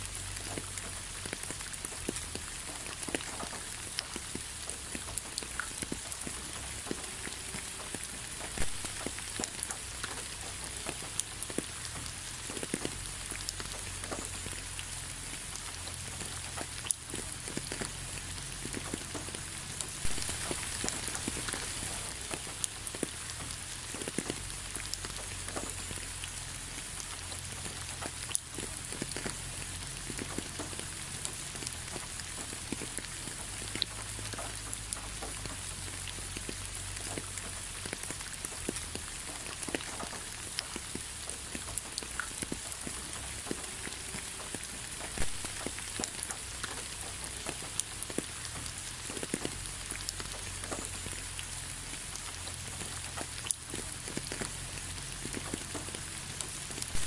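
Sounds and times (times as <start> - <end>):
rain hissing: 0.0 - 57.0
raindrops hitting nearby: 0.0 - 57.0.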